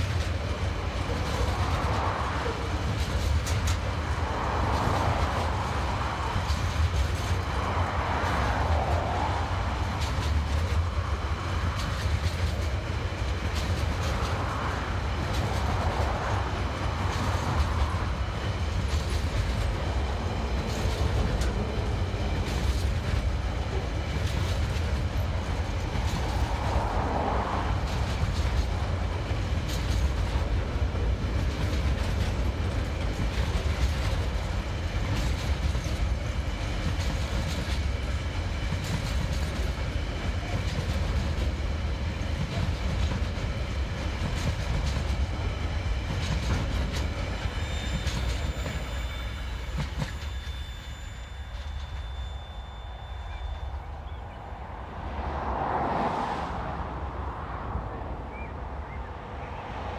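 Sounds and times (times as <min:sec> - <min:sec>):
wheels clicking over rail joints: 0:00.0 - 0:52.2
freight train rumbling past: 0:00.0 - 0:59.9.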